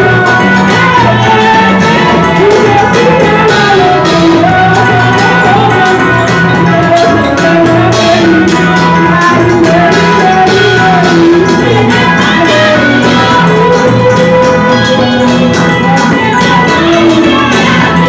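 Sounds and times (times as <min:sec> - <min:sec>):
drums: 0:00.0 - 0:18.0
electric bass: 0:00.0 - 0:18.0
women singing a hymn: 0:00.0 - 0:18.0.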